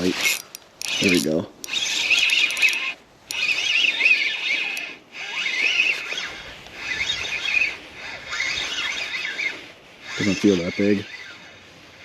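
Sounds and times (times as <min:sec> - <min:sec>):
fishing reel gears whirring: 0:00.0 - 0:12.0.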